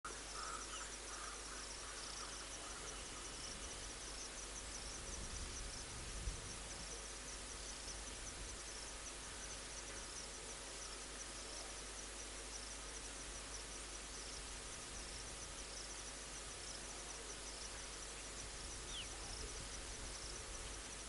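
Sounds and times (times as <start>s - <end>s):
insects chirping: 0.1s - 21.0s
soft hiss: 0.1s - 21.0s.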